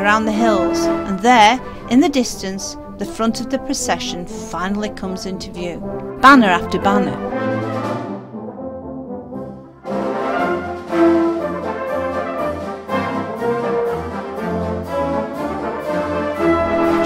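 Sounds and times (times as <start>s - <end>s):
brass band playing held chords: 0.2s - 17.0s.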